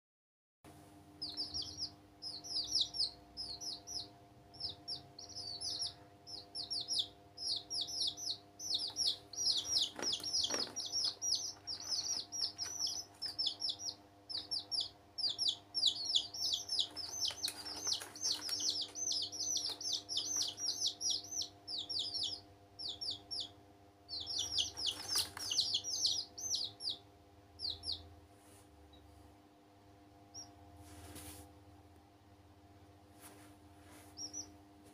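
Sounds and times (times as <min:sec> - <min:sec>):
chicks peeping: 0:01.2 - 0:28.1, 0:30.3 - 0:30.6, 0:33.2 - 0:34.9.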